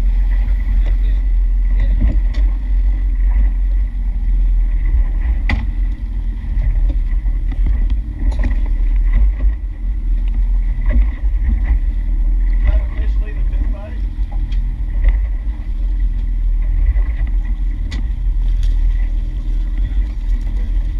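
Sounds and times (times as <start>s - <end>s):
boat motor: 0.0s - 20.9s
wind rumble: 0.0s - 20.9s.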